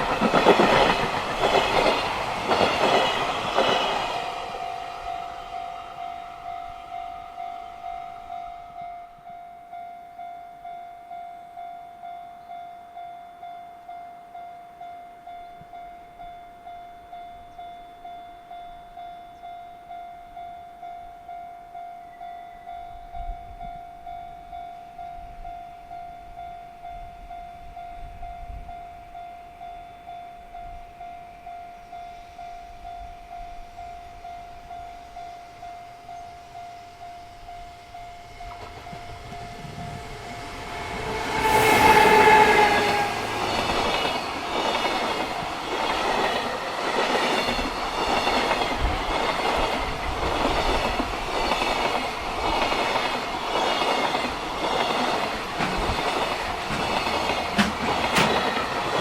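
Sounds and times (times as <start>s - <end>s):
level crossing warning bell: 0.0s - 59.0s
train arriving: 0.0s - 59.0s.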